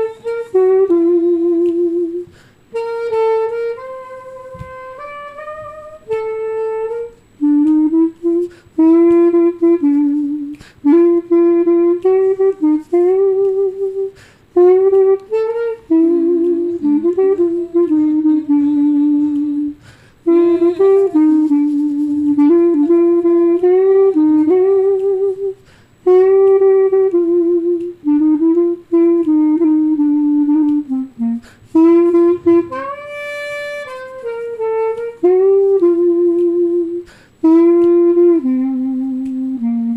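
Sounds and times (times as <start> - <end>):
solo clarinet melody: 0.0 - 39.9.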